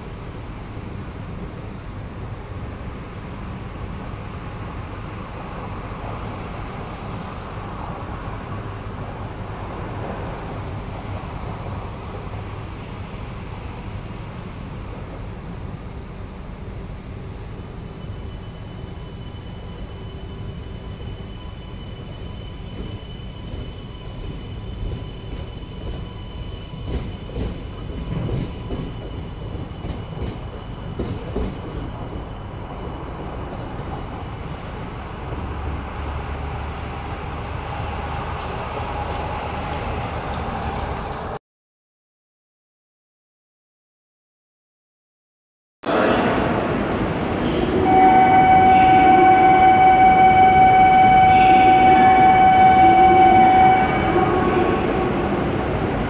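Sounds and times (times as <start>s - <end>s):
train rumbling past: 0.0s - 41.4s, 45.9s - 56.0s.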